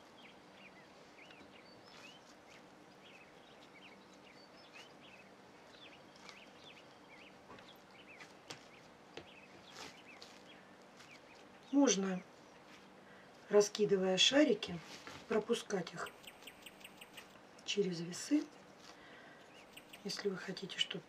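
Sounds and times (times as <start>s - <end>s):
small birds chirping: 0.0s - 14.7s, 15.3s - 21.0s
low steady hum: 0.0s - 21.0s.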